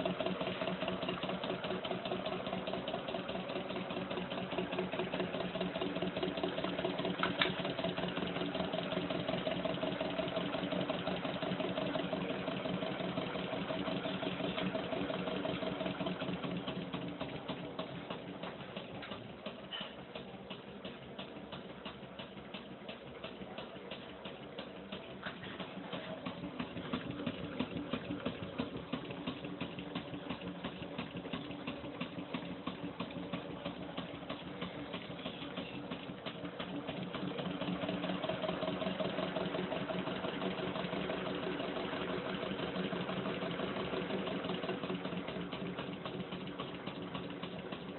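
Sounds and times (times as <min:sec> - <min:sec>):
small engine mechanical hum: 0:00.0 - 0:47.9.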